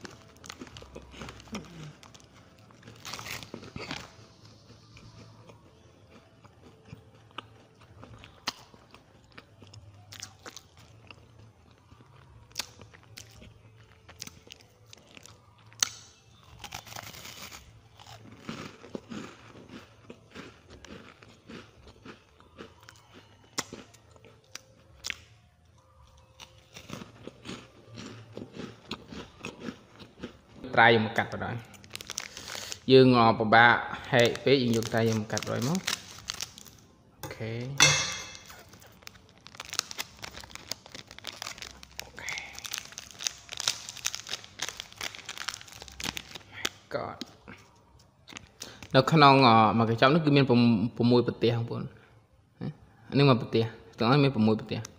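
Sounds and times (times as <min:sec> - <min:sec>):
crunchy wafer biting and chewing: 0:00.0 - 0:32.9, 0:34.1 - 0:36.8, 0:37.8 - 0:49.0.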